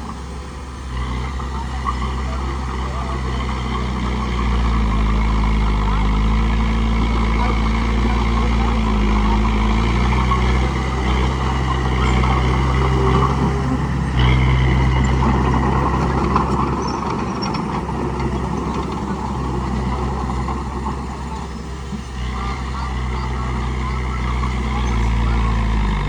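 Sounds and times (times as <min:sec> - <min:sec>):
bulldozer diesel engine: 0:00.0 - 0:26.0.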